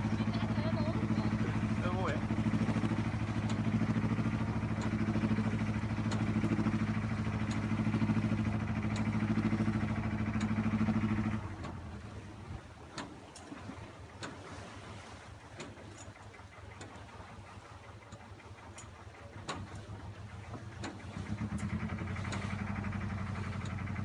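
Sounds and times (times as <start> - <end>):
motorboat engine humming: 0.0 - 24.0
water noise: 0.0 - 24.0.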